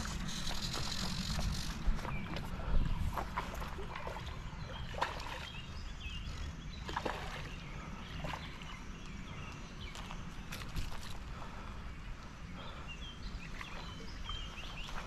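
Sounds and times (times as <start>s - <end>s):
light water splashes: 0.0s - 11.4s, 13.4s - 15.0s
moving water: 0.0s - 15.0s
wind rumble: 0.0s - 15.0s.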